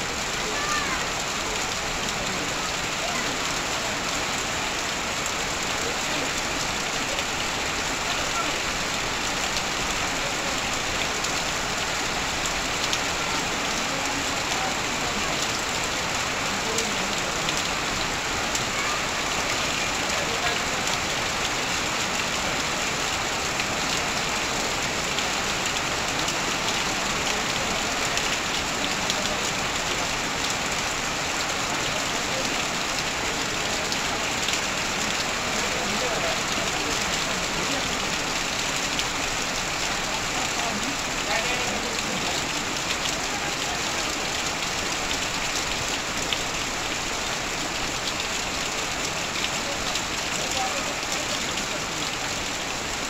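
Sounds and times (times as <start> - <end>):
heavy rain on metal sheeting: 0.0 - 53.0
runoff pouring onto ground: 0.0 - 53.0.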